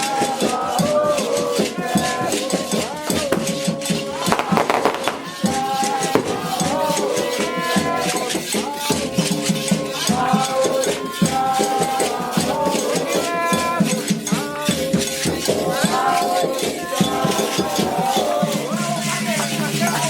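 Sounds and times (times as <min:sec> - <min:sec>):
shaken rattle rhythm: 0:00.0 - 0:20.0
voices chanting: 0:00.0 - 0:20.0.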